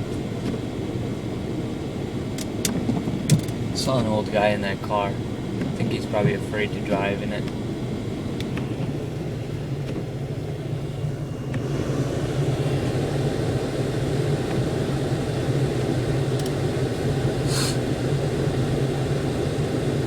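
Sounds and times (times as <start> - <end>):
car driving on snowy road: 0.0 - 20.0.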